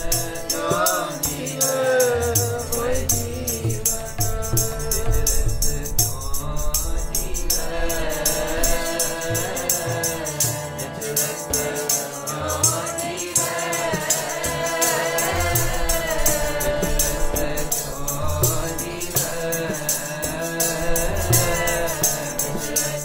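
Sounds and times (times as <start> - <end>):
harmonium sustained chords: 0.0 - 23.0
jingling hand percussion: 0.0 - 23.0
voices singing in unison: 0.0 - 23.0.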